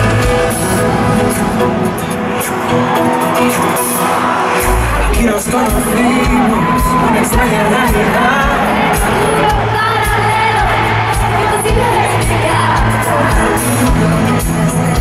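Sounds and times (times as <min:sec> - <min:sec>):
crowd noise: 0:00.0 - 0:15.0
people singing over a band: 0:02.0 - 0:15.0.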